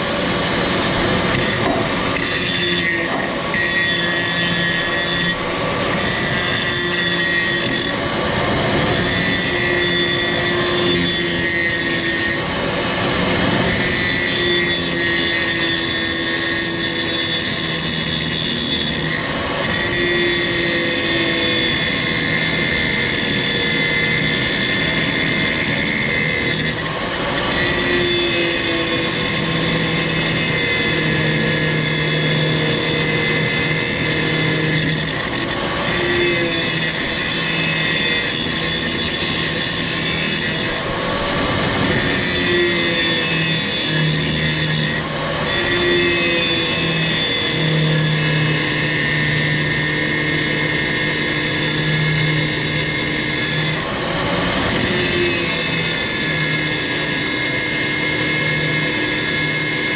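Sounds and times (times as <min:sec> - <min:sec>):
power grinder grinding metal: 0:00.0 - 0:59.9.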